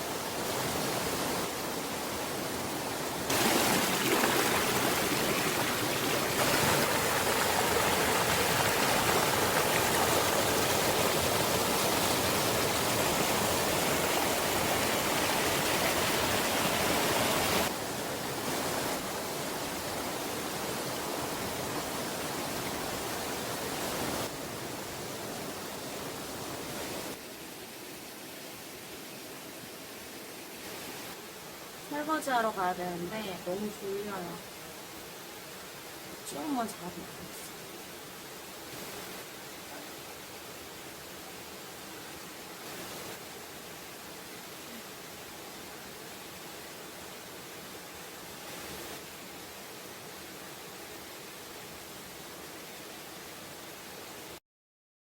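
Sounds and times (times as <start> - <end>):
stream water rushing: 0.0 - 54.4.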